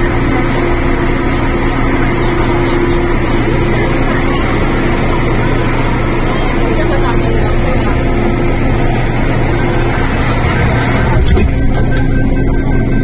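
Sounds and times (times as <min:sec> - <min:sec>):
low steady tones: 0:00.0 - 0:13.0
train interior hum: 0:00.0 - 0:13.0.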